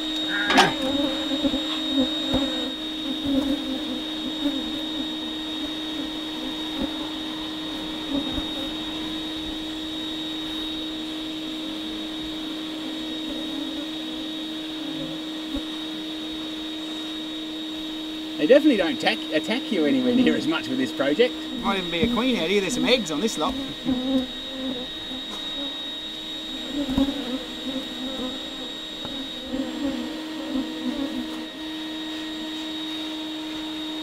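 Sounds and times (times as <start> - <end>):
vacuum motor hum with whine: 0.0 - 34.0.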